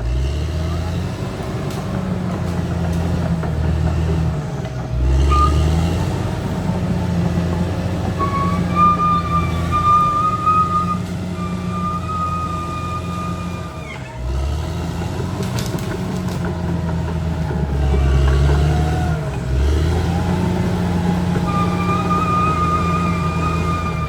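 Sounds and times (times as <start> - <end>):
bulldozer engine humming: 0.0 - 24.0.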